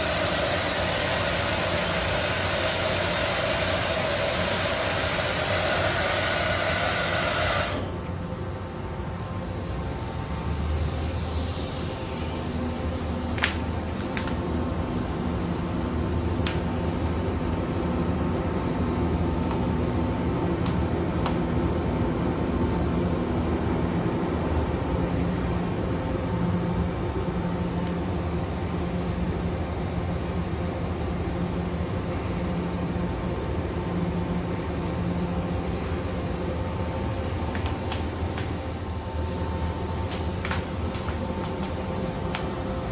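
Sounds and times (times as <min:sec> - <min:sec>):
machine hissing and whining: 0:00.0 - 0:42.9
quiet machine hum: 0:00.0 - 0:42.9.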